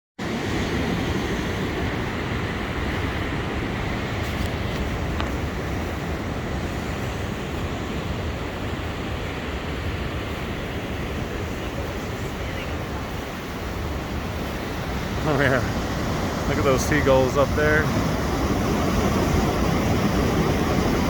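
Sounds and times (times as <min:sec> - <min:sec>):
ocean surf: 0:00.2 - 0:21.0
wind buffeting microphone: 0:00.4 - 0:21.0.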